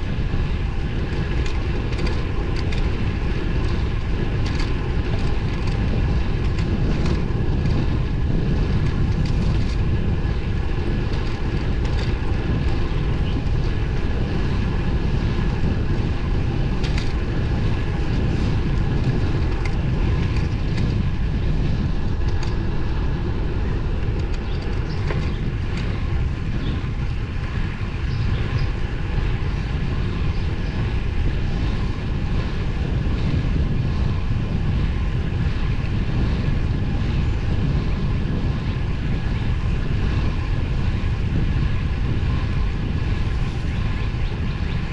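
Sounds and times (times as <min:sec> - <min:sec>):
wind rush and tyre noise: 0:00.0 - 0:44.9.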